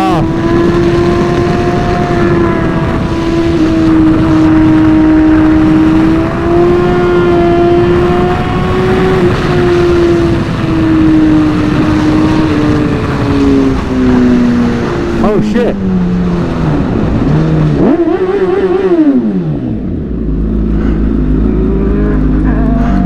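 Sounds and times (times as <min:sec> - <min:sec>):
loud wind rush: 0:00.0 - 0:23.0
motorcycle engine at high revs: 0:00.0 - 0:23.0.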